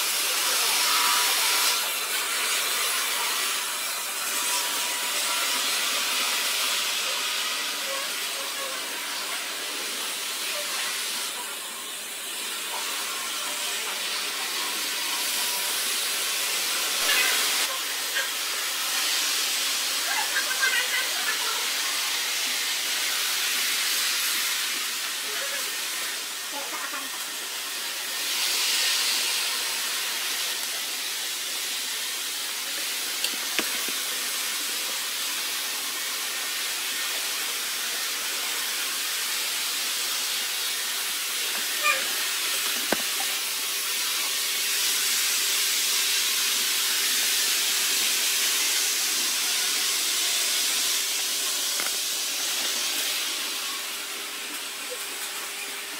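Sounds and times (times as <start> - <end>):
model trains whirring: 0.0 - 55.9.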